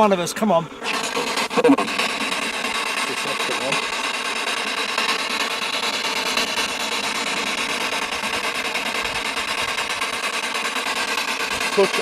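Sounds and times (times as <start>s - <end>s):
faint constant tones: 0.0s - 12.0s.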